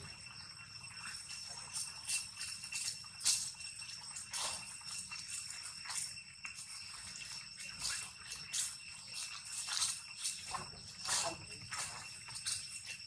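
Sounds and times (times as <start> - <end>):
high-pitched insect drone: 0.0 - 13.0
monkeys rustling dry leaves: 1.1 - 13.0.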